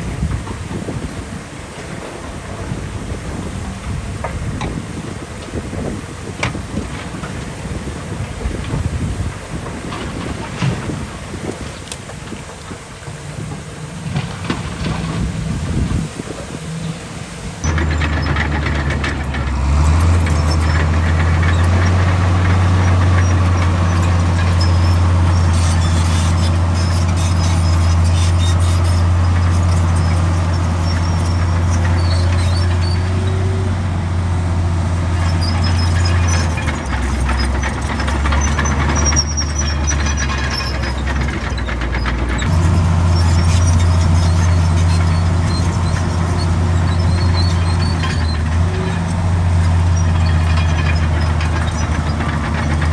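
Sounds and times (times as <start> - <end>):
bulldozer diesel engine drone: 0.0 - 52.9
steel tracks squealing and clanking: 0.0 - 52.9.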